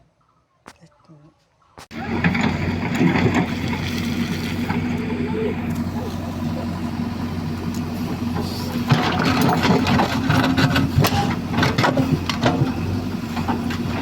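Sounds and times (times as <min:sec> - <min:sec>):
engine running: 0:01.9 - 0:14.0.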